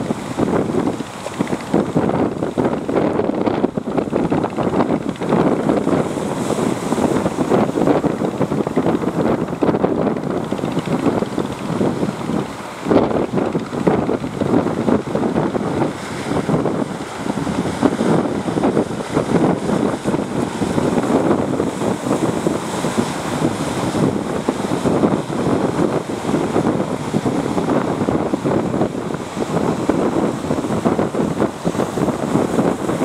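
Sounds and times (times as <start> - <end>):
breaking surf: 0.0 - 33.0
wind buffeting microphone: 0.0 - 33.0.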